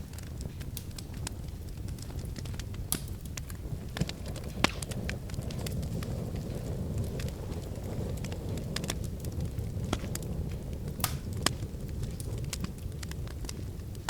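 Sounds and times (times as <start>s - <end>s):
fire snaps and pops: 0.0s - 14.0s
wood fire crackling: 0.0s - 14.0s.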